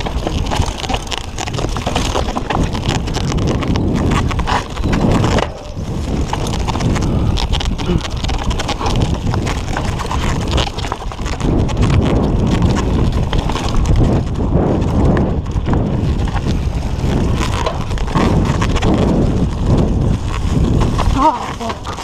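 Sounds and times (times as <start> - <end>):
bike rattling and clattering: 0.0 - 22.0
tyres rumbling on dirt: 0.0 - 22.0
wind buffeting microphone: 0.0 - 22.0.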